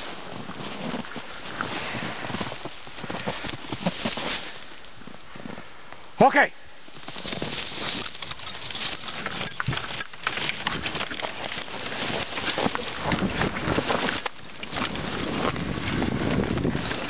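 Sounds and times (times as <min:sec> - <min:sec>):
branches snapping against sled: 0:00.0 - 0:05.3, 0:07.0 - 0:17.0
sled running through snow: 0:00.0 - 0:05.6, 0:06.9 - 0:17.0.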